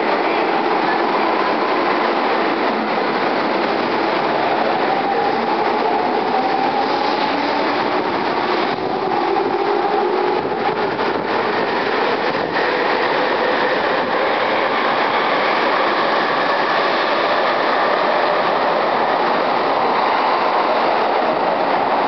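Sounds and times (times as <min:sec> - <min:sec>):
train wheels running on rails: 0:00.0 - 0:22.0.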